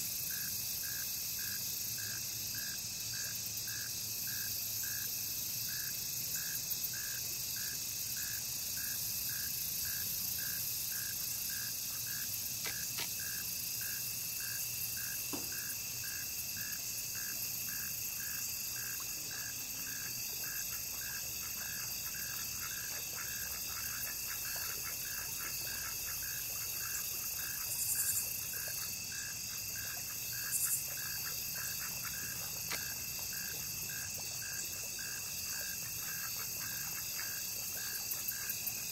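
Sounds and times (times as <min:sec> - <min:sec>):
crickets droning: 0:00.0 - 0:38.9
pulsing insect call: 0:00.0 - 0:38.9.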